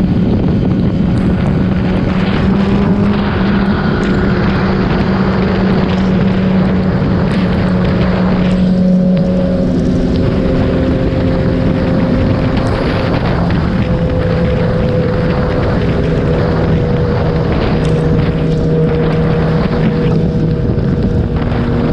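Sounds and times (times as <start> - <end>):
motorcycle engine running: 0.0 - 21.9
rush of noise: 0.0 - 21.9.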